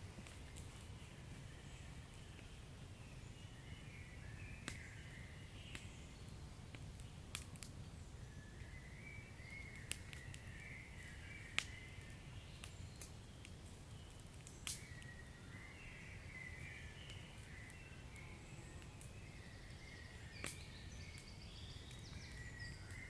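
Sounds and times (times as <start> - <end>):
wood fire crackling and popping: 0.0 - 2.9, 4.6 - 18.2, 18.8 - 23.0.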